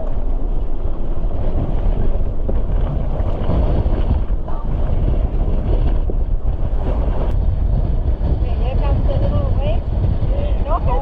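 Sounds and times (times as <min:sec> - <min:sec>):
sea rushing: 0:00.0 - 0:11.0
wind buffeting microphone: 0:00.0 - 0:11.0.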